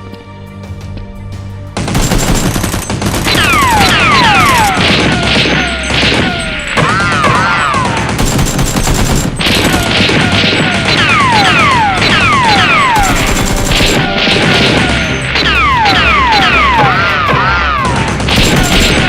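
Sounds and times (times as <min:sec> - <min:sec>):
automatic gunfire bursts: 0:01.8 - 0:19.0.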